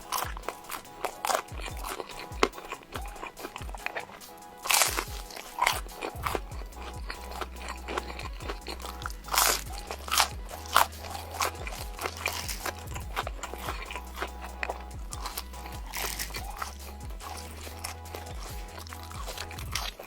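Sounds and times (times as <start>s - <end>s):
background music with low bass: 0.0s - 20.0s
crunchy biting and chewing: 0.0s - 20.0s.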